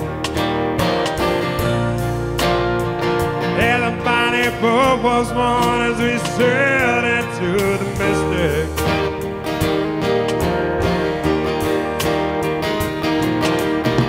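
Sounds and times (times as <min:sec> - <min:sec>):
sliding lead melody: 0:00.0 - 0:14.0
strummed guitar: 0:00.0 - 0:14.0.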